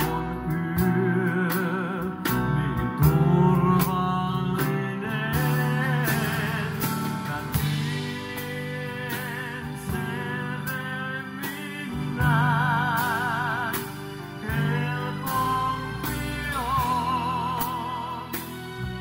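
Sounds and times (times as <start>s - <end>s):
drum kit beat: 0.0s - 19.0s
electric bass: 0.0s - 19.0s
keyboards: 0.0s - 19.0s
man singing into a microphone: 0.0s - 19.0s.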